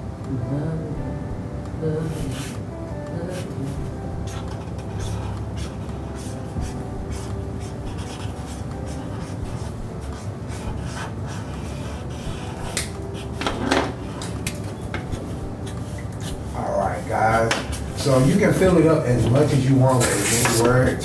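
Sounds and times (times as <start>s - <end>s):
low room hum: 0.0s - 21.0s
markers scratching on paper: 2.1s - 2.6s, 3.3s - 18.5s, 19.2s - 21.0s.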